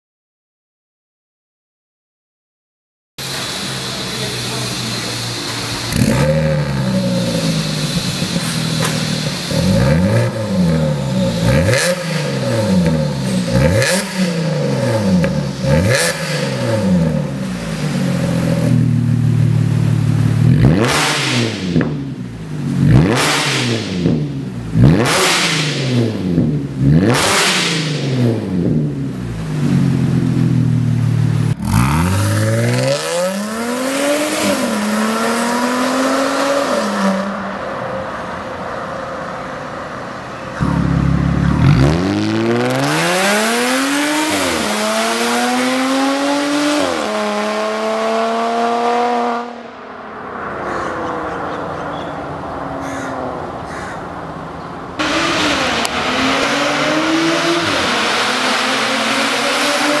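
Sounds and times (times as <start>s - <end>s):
car engine revving through gears: 3.2s - 19.4s, 20.1s - 37.6s, 40.6s - 49.8s, 54.9s - 60.0s.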